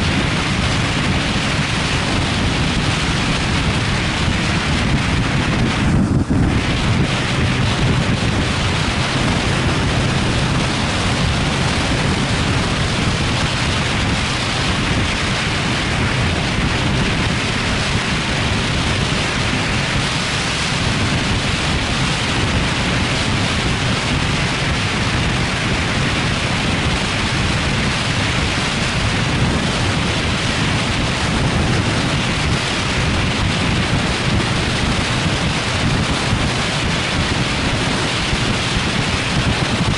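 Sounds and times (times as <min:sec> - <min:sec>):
wind roaring over microphone: 0:00.0 - 0:39.9.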